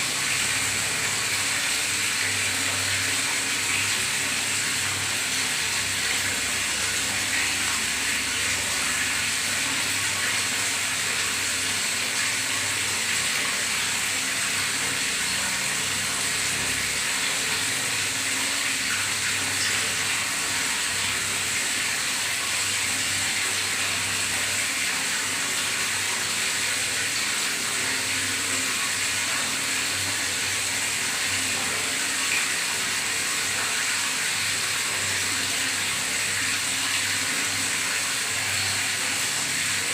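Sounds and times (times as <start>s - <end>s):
water gurgling in bathtub: 0.0s - 39.9s.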